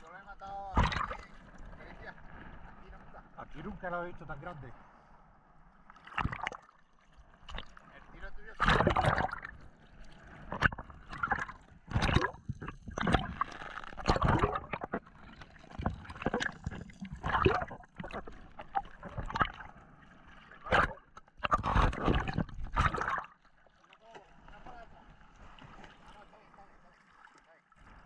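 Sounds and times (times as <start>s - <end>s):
sea water sloshing and gurgling: 0.0s - 28.0s.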